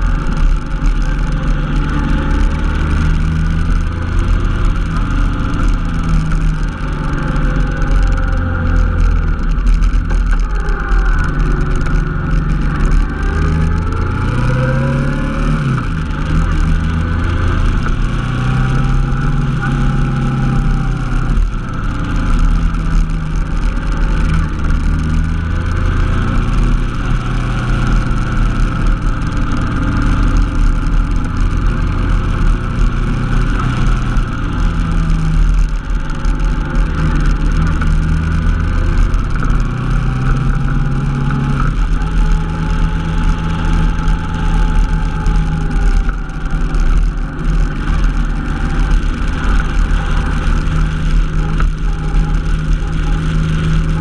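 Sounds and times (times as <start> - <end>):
motorcycle engine running: 0.0 - 54.0
wind rumble: 0.0 - 54.0.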